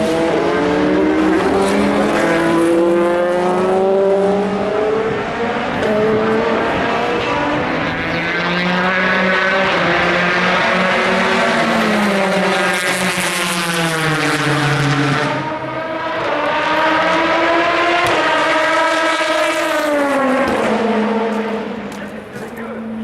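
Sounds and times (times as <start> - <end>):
race car engines at speed: 0.0 - 23.0.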